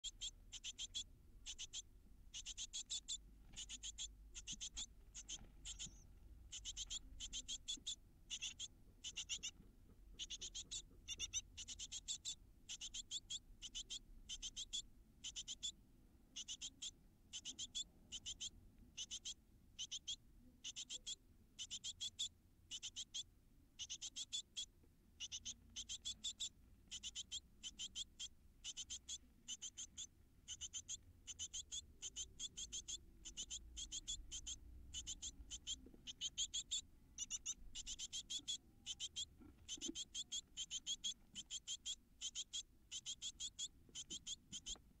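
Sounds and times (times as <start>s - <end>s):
nestlings calling: 0.0s - 45.0s.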